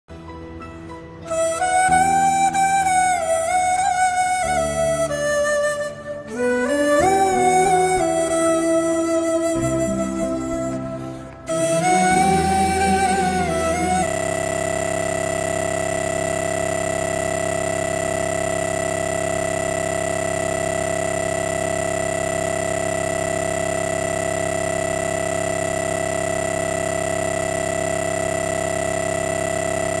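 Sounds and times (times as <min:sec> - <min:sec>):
sustained electronic drone chord: 0:03.8 - 0:30.0.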